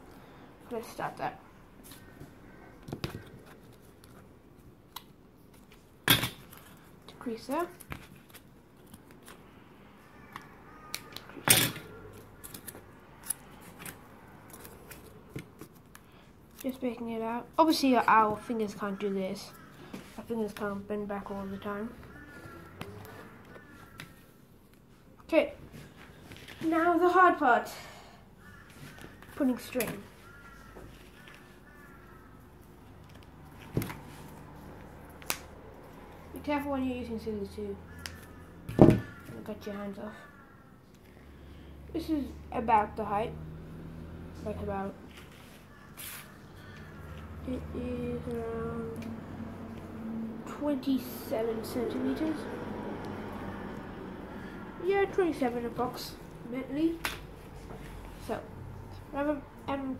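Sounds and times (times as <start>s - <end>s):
faint crows cawing: 0.1s - 4.3s, 9.2s - 59.9s.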